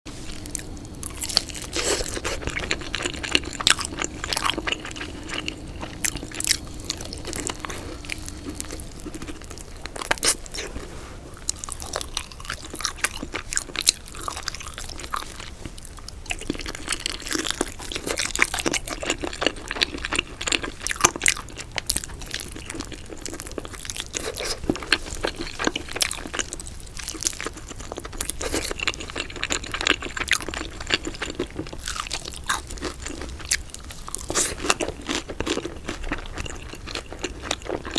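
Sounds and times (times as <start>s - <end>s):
chewing crunchy food: 0.1s - 37.9s.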